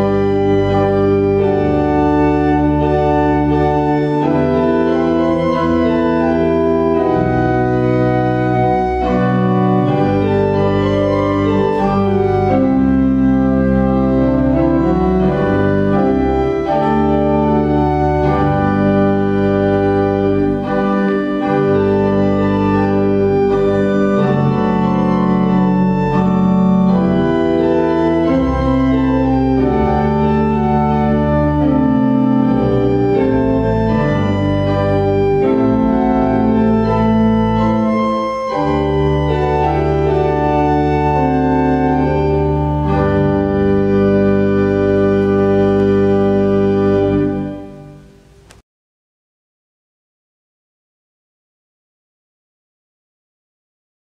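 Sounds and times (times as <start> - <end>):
organ chords over held bass: 0.0 - 48.5.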